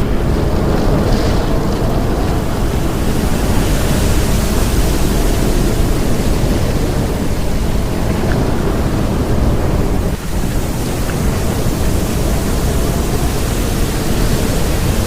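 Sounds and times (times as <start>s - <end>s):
heavy low rumble: 0.0s - 15.0s
rain: 0.0s - 15.0s
wind rushing: 0.0s - 15.0s.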